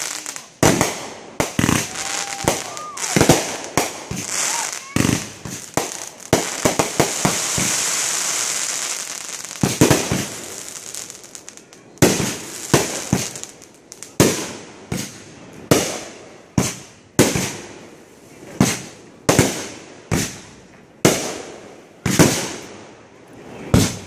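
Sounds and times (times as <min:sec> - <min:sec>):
fireworks bangs: 0:00.0 - 0:17.7, 0:18.6 - 0:22.8, 0:23.4 - 0:24.0
high hissing crackle of fireworks: 0:00.0 - 0:24.0.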